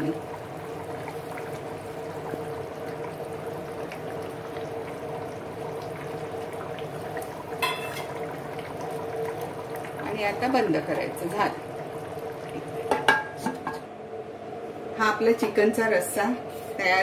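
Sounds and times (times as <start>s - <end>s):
curry bubbling in a pot: 0.0s - 13.8s.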